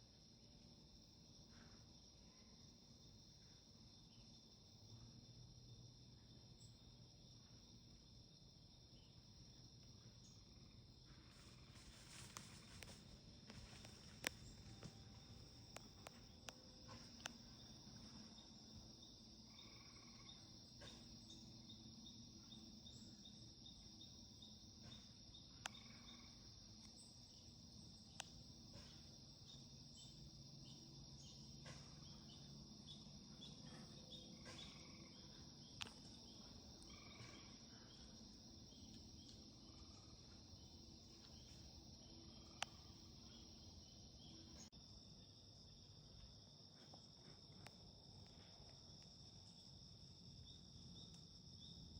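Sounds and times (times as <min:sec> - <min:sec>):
crickets and insects trilling: 0:00.2 - 0:51.9.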